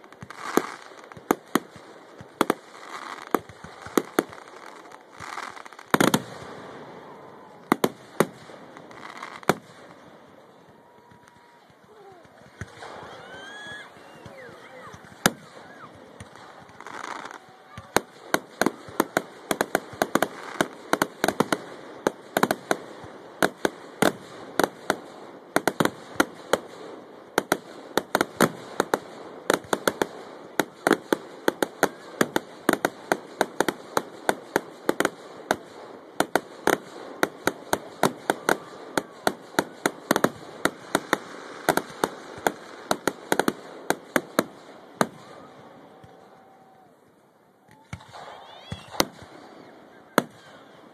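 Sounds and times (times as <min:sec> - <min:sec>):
fireworks crackle: 0:00.0 - 0:50.9.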